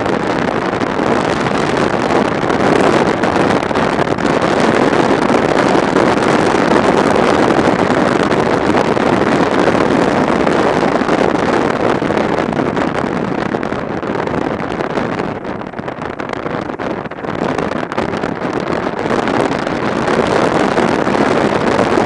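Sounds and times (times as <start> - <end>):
road noise: 0.0 - 22.0
wind rushing over microphone: 0.0 - 22.0.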